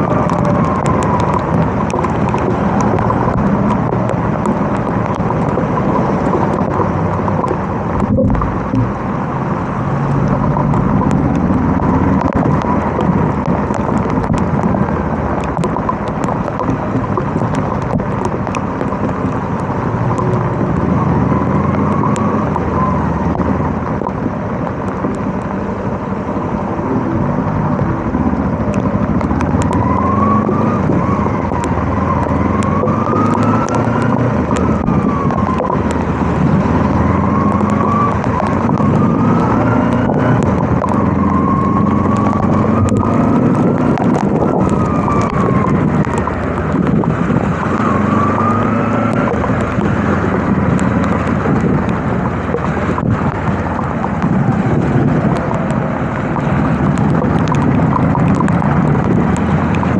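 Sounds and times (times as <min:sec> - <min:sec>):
heavy rain and road noise: 0:00.0 - 0:59.9.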